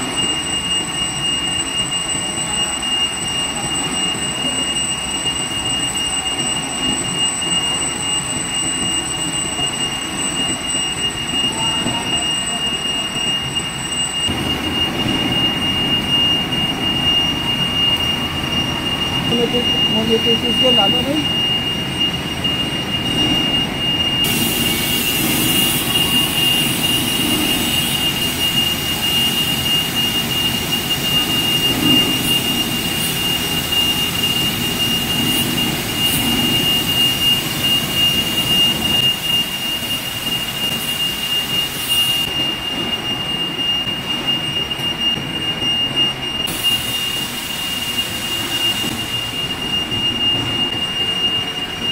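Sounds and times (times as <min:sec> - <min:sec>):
lathe whining and humming: 0:00.0 - 0:51.9.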